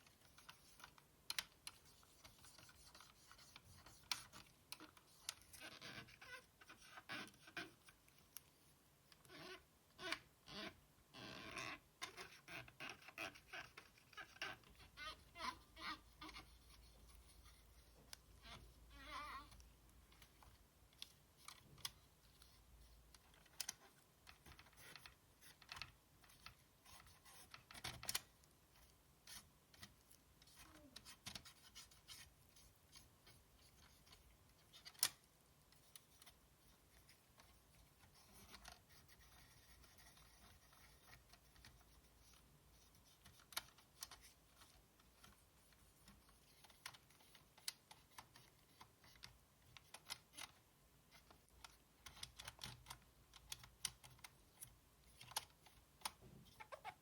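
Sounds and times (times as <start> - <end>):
small parts clicking and scratching: 0.0 - 57.0.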